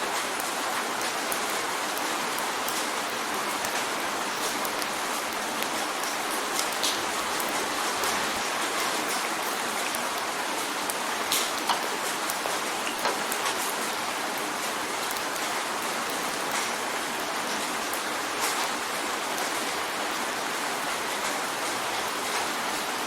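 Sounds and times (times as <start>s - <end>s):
rain drumming on a window: 0.0s - 23.0s
raindrops ticking on glass: 0.1s - 19.9s.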